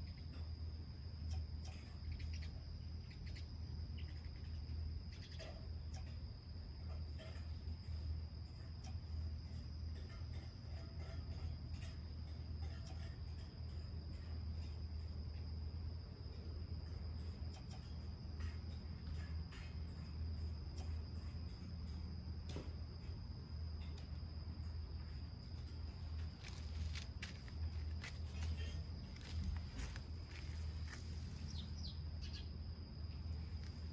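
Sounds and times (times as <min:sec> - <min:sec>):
insect pulsing chirp: 0:00.0 - 0:33.9
insects trilling: 0:00.0 - 0:33.9.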